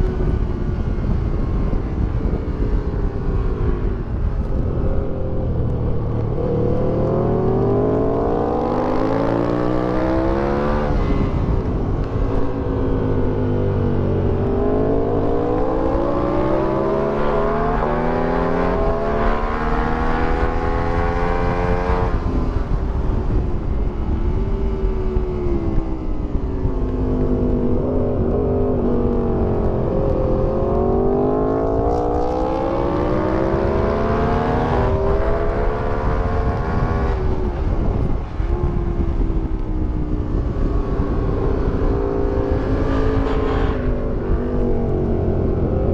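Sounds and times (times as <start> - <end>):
wind rushing over microphone: 0.0 - 45.9
motorcycle engine revving: 0.8 - 45.9.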